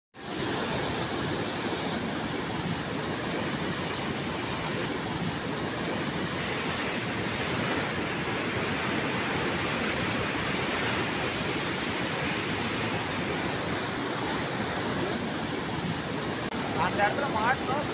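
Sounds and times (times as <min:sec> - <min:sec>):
water gushing from dam outlet: 0:00.2 - 0:17.9.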